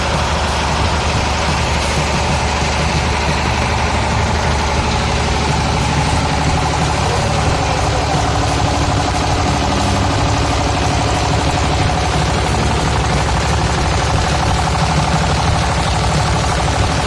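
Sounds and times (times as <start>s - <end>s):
machine engine running: 0.0s - 17.0s.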